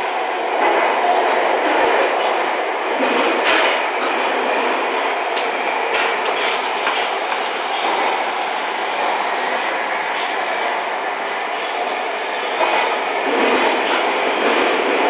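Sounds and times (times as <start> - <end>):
railcar running along track: 0.0 - 15.0.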